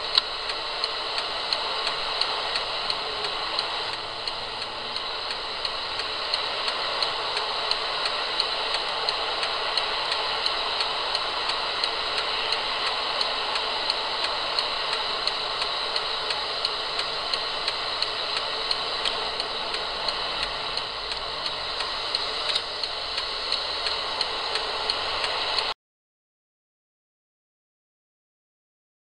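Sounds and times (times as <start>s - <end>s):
light regular ticking: 0.0s - 25.7s
car engine and road noise: 0.1s - 25.7s.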